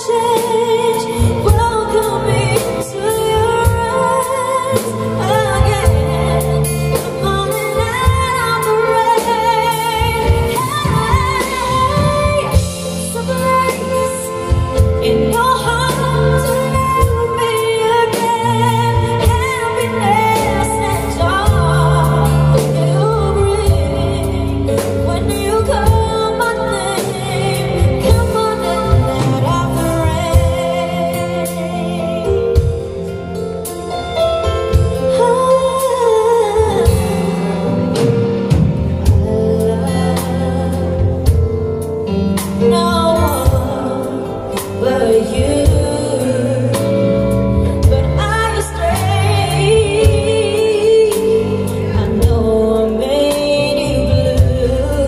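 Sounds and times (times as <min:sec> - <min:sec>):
band accompaniment: 0:00.0 - 0:55.0
woman singing into microphone: 0:00.0 - 0:55.0.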